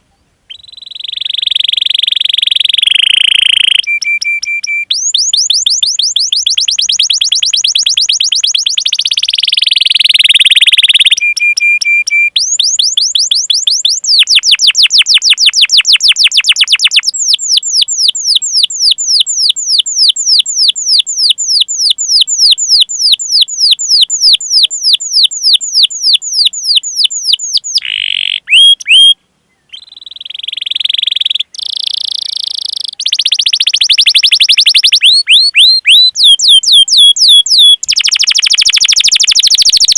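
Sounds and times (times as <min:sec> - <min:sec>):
canary singing trills: 0:00.5 - 0:39.9.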